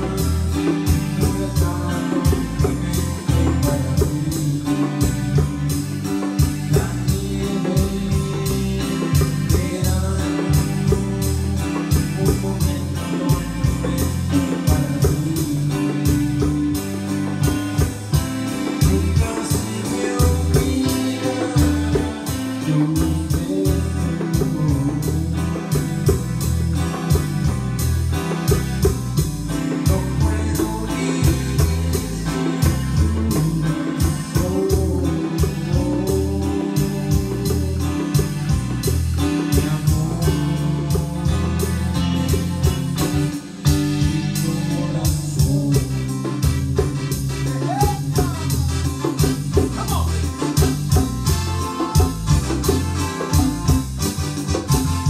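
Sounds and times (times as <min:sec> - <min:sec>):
bongos: 0:00.0 - 0:55.0
electronic keyboard: 0:00.0 - 0:55.0
repeating bass beat: 0:00.0 - 0:55.0.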